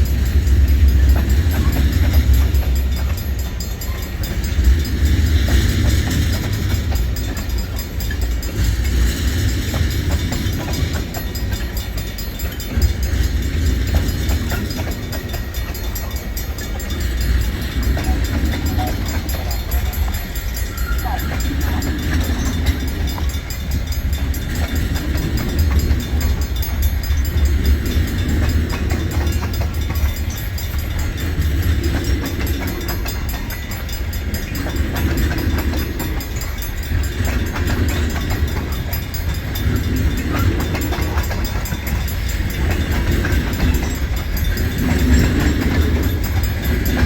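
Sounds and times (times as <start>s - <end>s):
freight train cars rolling: 0.0s - 47.0s
wheels clacking over rail joints: 0.0s - 47.0s.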